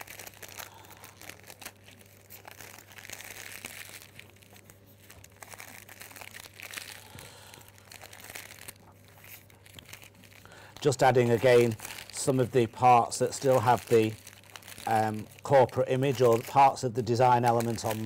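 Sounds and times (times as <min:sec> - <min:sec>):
cellophane crinkling: 0:00.0 - 0:18.0.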